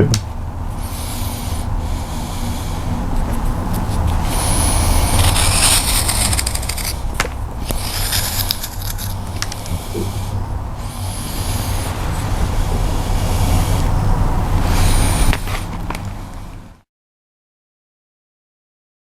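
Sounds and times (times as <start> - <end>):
knife shaving wood: 0.0 - 16.7
steady low rumble: 0.0 - 16.8.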